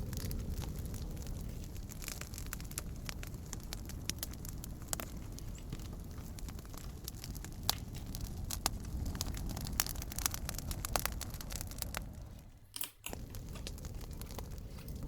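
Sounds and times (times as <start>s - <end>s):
bonfire crackling: 0.0s - 15.0s
low rush of burning: 0.0s - 15.0s.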